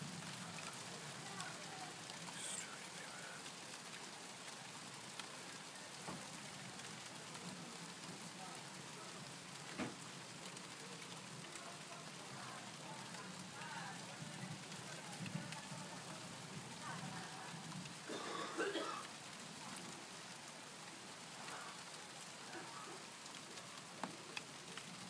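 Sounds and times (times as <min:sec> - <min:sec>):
rain falling: 0:00.0 - 0:25.0
sharp rain taps: 0:00.0 - 0:25.0.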